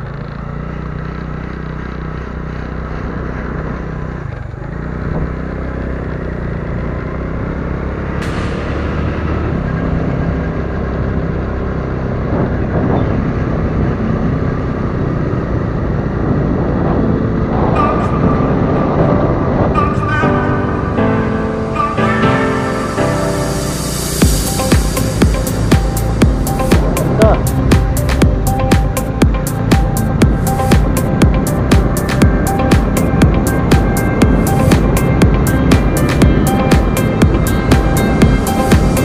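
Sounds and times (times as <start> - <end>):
vehicle running: 0.0 - 39.0.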